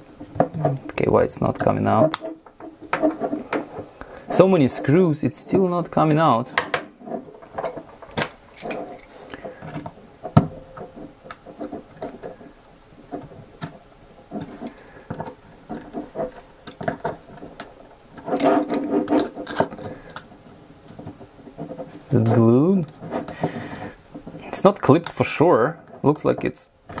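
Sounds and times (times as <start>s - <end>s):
plastic scraping rubs: 0.2s - 27.0s.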